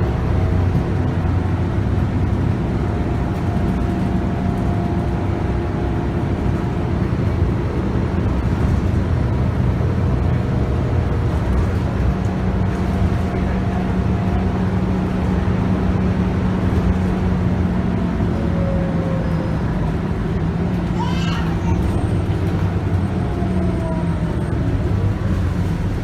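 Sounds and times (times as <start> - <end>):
bus diesel engine running: 0.0 - 26.0
tyre and road noise: 0.0 - 26.0.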